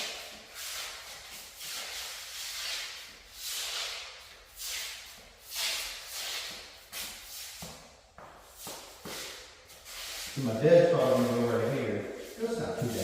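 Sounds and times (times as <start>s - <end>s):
shoe sole scuffing on tile: 0.0s - 13.0s.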